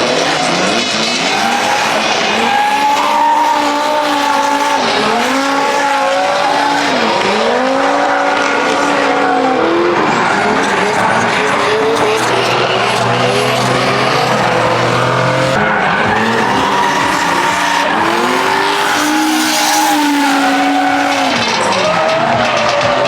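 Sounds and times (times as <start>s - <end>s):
car engine revving hard: 0.0s - 22.6s
tyres skidding: 0.0s - 23.0s.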